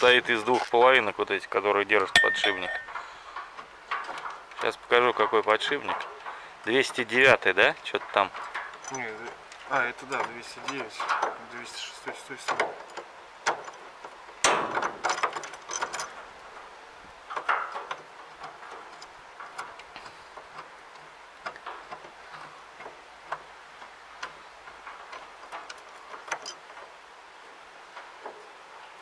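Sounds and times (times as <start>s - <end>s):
metallic clicks and scrapes of bearing: 2.0s - 27.0s.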